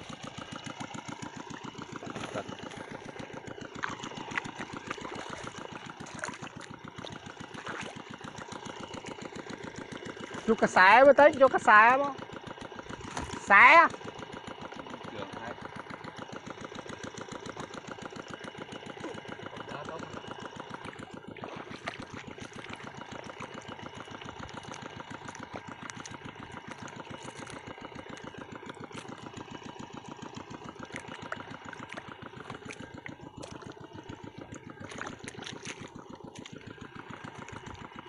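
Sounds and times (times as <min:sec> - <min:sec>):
water pump engine running: 0:00.0 - 0:38.0.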